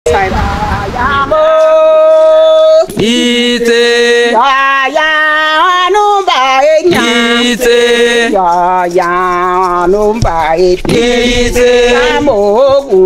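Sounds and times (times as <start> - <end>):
person singing slow melody: 0.2 - 13.0.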